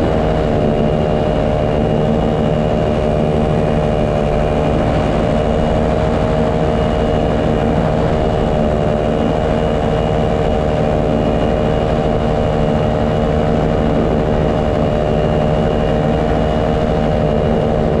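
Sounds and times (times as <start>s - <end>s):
paramotor engine humming: 0.0s - 18.0s.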